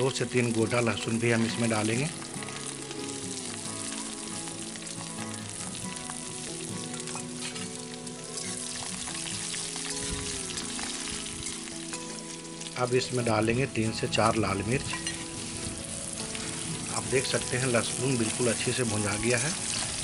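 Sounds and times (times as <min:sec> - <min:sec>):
garlic sizzling in oil: 0:00.0 - 0:20.0.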